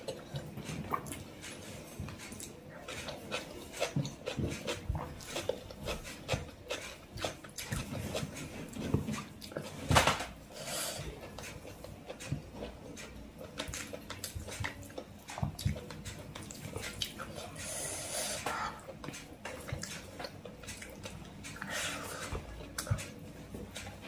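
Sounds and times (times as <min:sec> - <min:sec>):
wet chewing and lip smacks: 0:00.0 - 0:09.8, 0:10.6 - 0:24.0.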